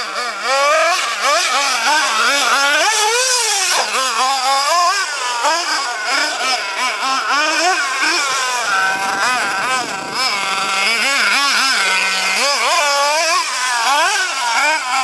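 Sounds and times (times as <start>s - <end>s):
small nitro engine revving: 0.0s - 15.0s.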